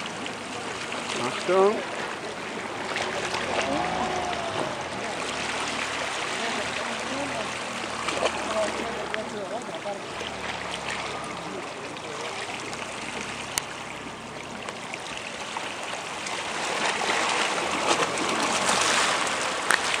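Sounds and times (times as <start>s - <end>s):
surf splashing over rock: 0.0s - 20.0s.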